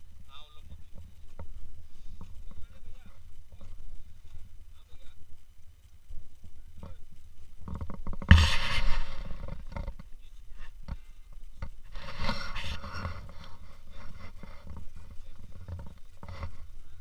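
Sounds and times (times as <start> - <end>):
microphone handling noise: 0.0 - 4.6, 6.6 - 17.0.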